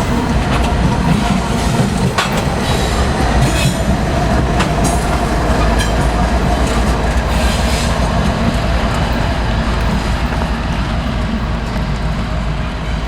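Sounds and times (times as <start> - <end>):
train rumble: 0.0 - 13.0
train wheels clacking over rail joints: 0.0 - 13.0.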